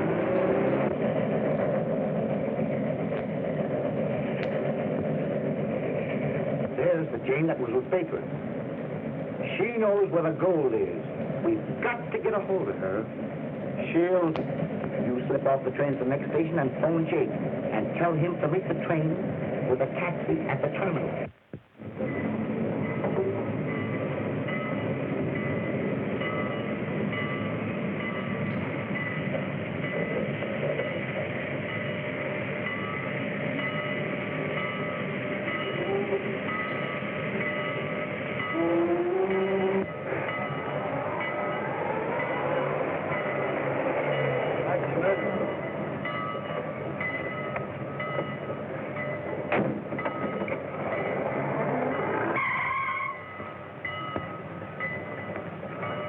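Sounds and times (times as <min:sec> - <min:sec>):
train wheels rumbling and rattling: 0:00.0 - 0:56.0.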